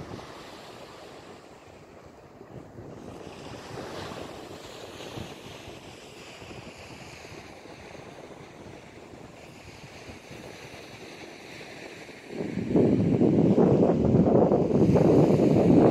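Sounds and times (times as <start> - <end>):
surf: 0.0 - 15.9
wind buffeting microphone: 0.0 - 15.9.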